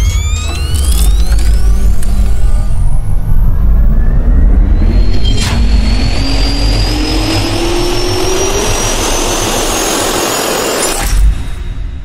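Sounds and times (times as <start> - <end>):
jet engine spooling up: 0.0 - 11.6.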